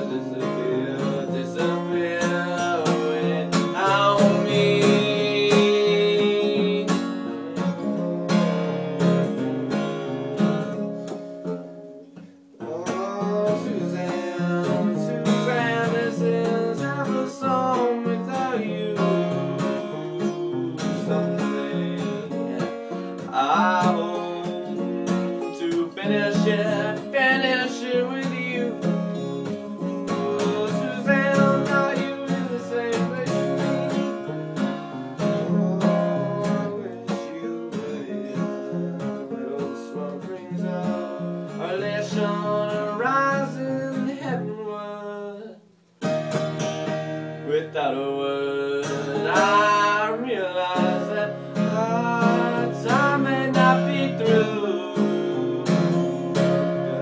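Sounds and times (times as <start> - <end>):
acoustic guitar: 0.0 - 57.0.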